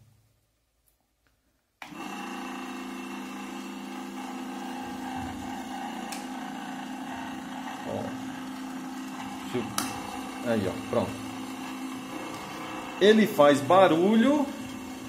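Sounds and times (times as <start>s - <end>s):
table fan motor humming: 1.8s - 15.0s.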